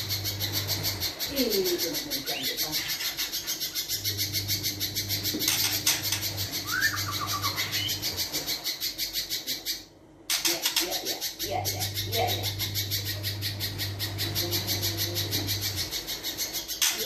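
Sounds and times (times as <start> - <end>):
bird calling with rapid harsh notes: 0.0 - 17.0.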